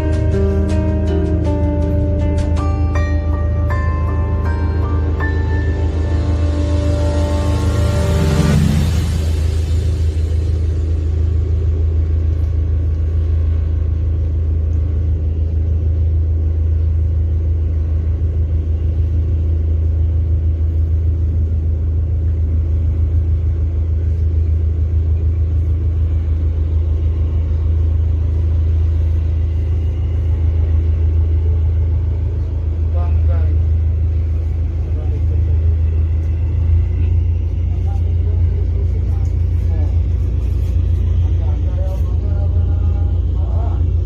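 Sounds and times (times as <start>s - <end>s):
ship diesel engine drone: 0.0s - 44.0s.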